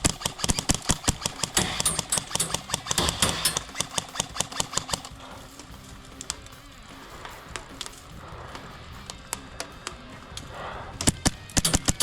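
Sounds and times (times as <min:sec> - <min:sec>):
airsoft rifle rapid shots: 0:00.0 - 0:12.0.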